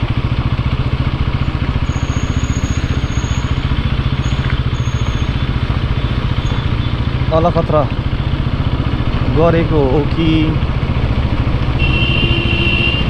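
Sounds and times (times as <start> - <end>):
motorcycle engine running low revs: 0.0 - 13.0.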